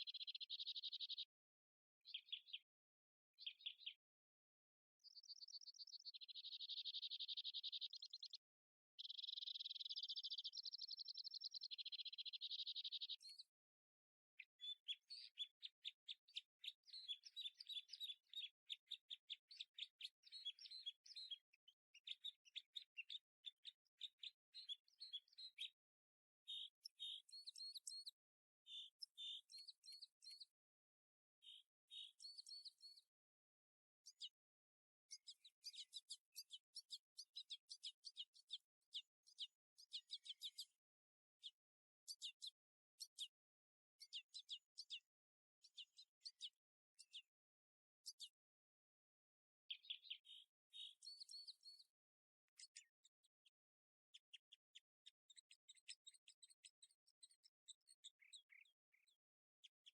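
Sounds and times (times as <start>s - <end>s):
faint birdsong chirps: 0.0s - 2.8s, 3.4s - 13.6s, 14.3s - 25.8s, 26.4s - 30.6s, 31.4s - 33.2s, 34.0s - 34.4s, 35.1s - 43.4s, 44.0s - 47.4s, 48.0s - 48.4s, 49.7s - 59.9s.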